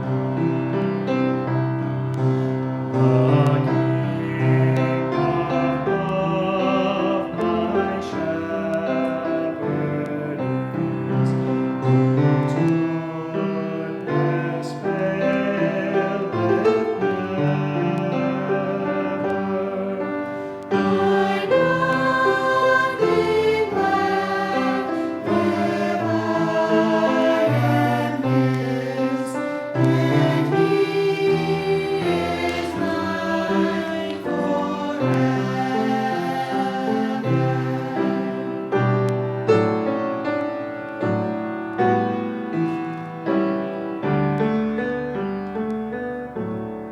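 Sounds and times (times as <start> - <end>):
choir singing a hymn: 0.0 - 40.5
keyboard accompaniment: 0.0 - 46.9.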